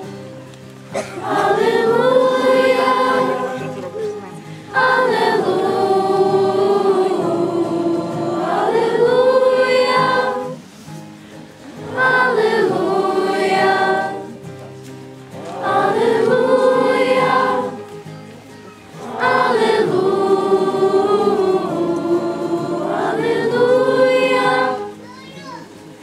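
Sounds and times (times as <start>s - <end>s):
girls' choir singing: 0.9s - 10.8s, 11.6s - 14.5s, 15.3s - 25.0s.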